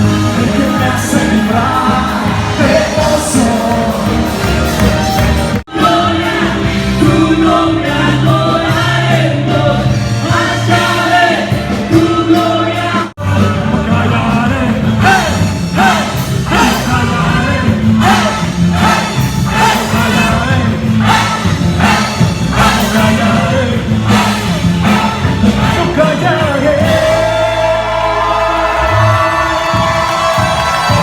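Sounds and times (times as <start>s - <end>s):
worship music with singing: 0.0s - 31.0s.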